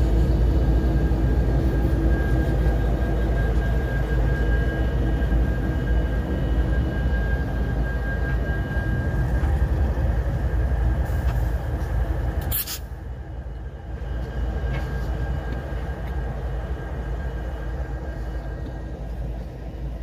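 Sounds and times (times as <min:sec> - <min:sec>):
diesel locomotives rumbling past: 0:00.0 - 0:20.0.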